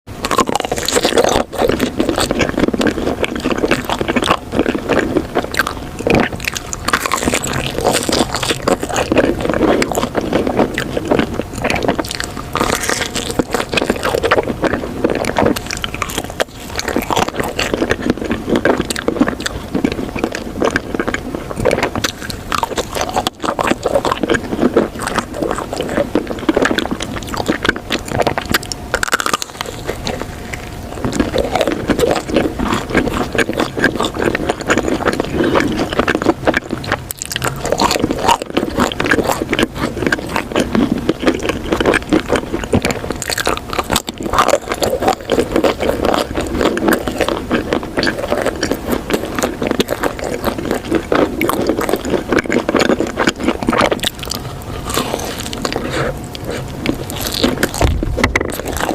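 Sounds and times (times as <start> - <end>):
crunching and chewing: 0.1 - 58.9.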